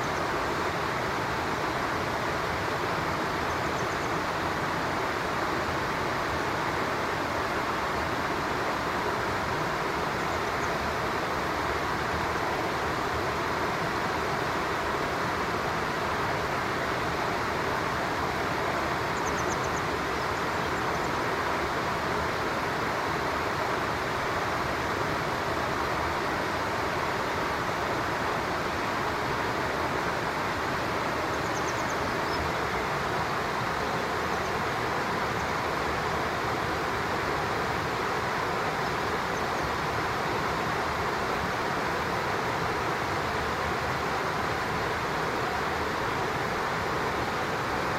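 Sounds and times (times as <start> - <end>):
stream water flowing: 0.0 - 47.9.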